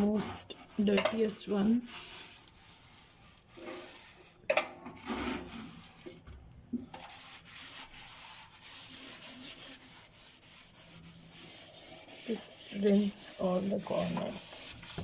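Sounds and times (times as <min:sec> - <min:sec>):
cloth wiping microwave walls: 0:00.0 - 0:04.4, 0:05.0 - 0:06.3, 0:06.9 - 0:15.0.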